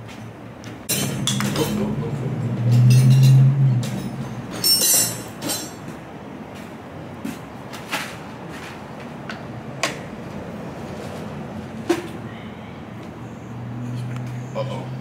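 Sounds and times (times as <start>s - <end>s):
workshop background noise: 0.0s - 14.6s.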